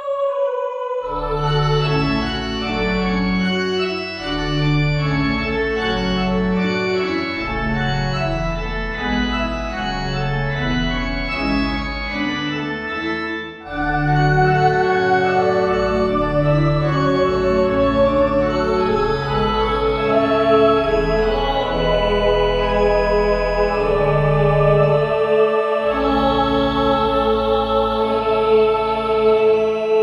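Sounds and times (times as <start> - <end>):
church organ playing chords: 1.0 - 30.0.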